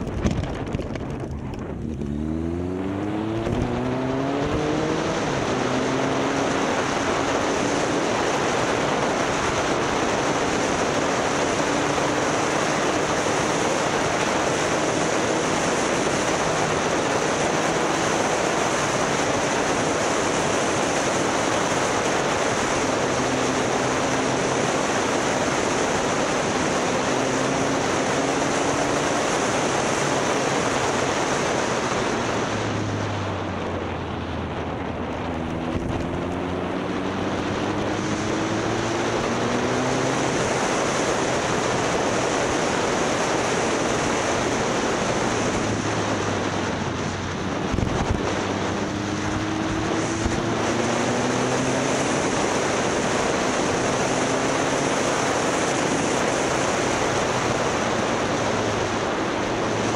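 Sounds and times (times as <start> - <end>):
motorcycle engine accelerating: 0.0 - 59.9
wind rush on microphone: 0.0 - 59.9.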